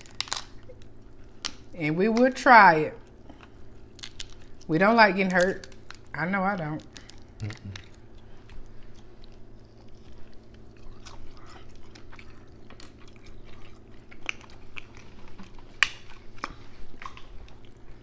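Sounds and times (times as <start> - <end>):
close-up chewing: 0.0 - 2.3, 3.0 - 4.7, 5.3 - 18.0
crab shells cracking by hand: 0.0 - 2.4, 3.0 - 4.7, 5.3 - 17.8.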